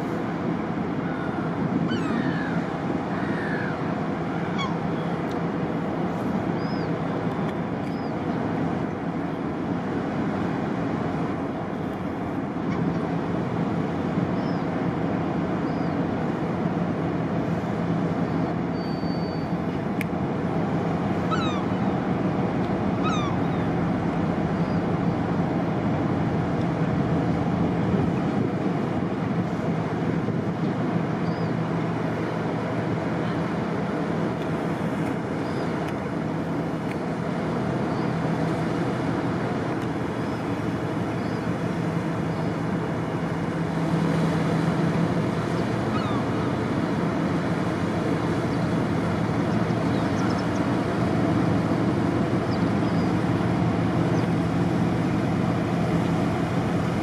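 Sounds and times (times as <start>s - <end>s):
diesel boat engines droning: 0.0s - 57.0s.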